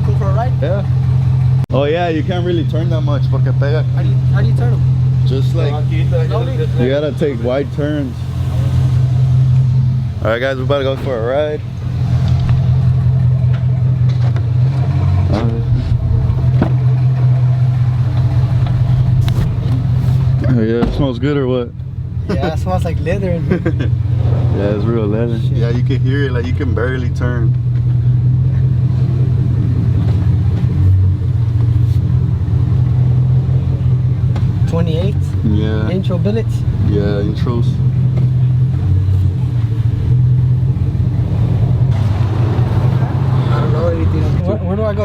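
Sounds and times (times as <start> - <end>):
engine running at low revs: 0.0 - 45.0.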